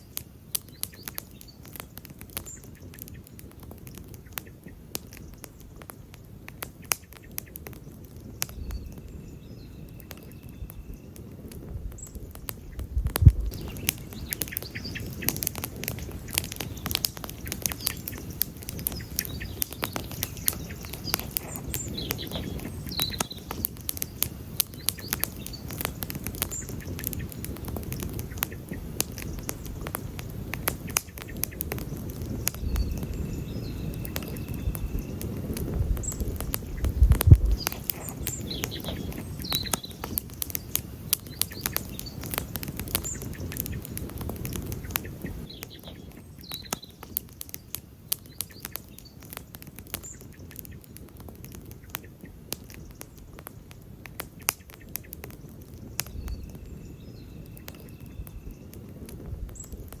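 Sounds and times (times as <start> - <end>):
campfire crackling and popping: 0.0 - 60.0.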